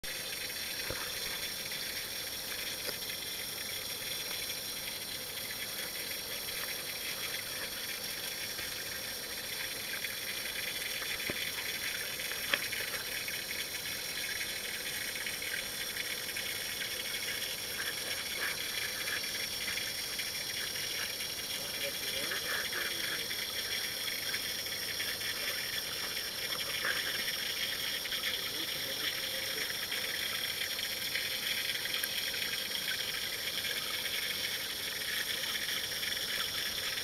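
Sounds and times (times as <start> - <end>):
underwater watery hiss: 0.2 - 37.0.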